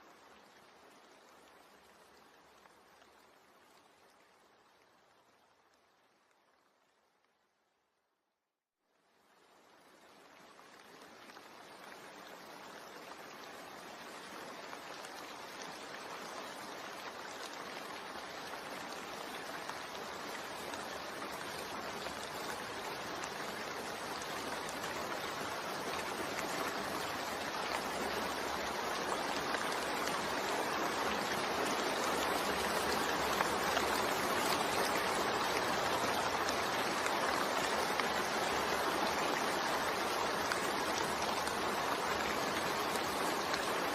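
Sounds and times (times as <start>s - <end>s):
steady rain falling: 0.0s - 8.3s, 8.9s - 43.9s.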